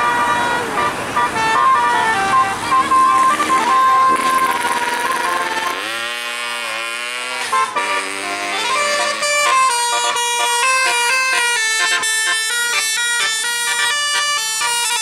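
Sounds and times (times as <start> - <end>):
multi-tone air horn melody: 0.0 - 15.0.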